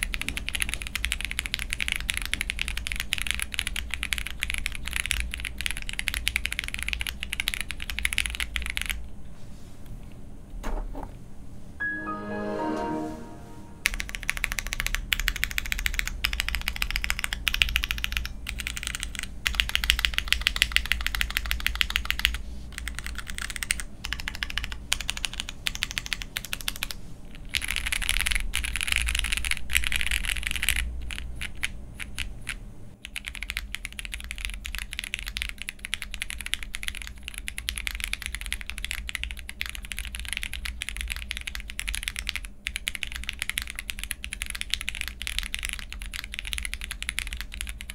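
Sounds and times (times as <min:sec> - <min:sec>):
mechanical keyboard typing: 0:00.0 - 0:09.0, 0:13.8 - 0:47.9.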